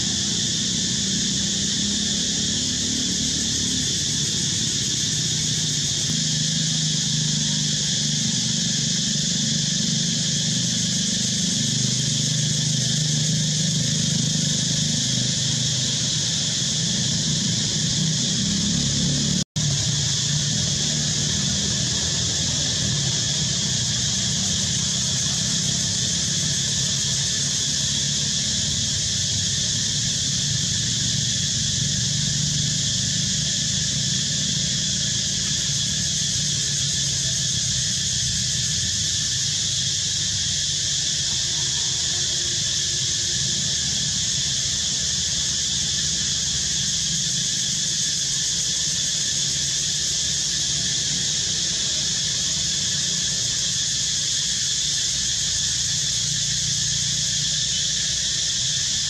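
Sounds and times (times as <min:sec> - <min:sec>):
cicadas droning: 0:00.0 - 0:59.0.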